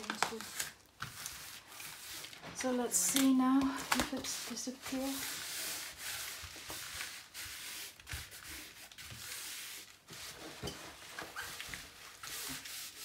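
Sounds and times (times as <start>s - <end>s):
hands rubbing on paper: 0.4s - 13.0s.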